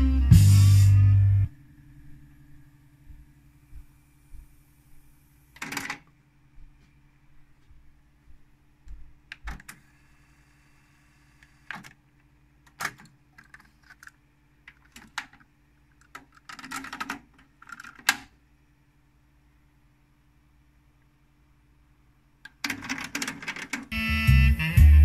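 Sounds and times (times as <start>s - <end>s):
faint steady hum: 0.0s - 24.6s.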